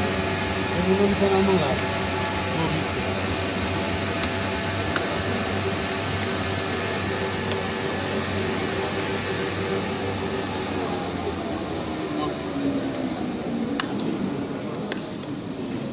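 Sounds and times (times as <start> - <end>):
ice cream machine motor hum: 0.0 - 15.9.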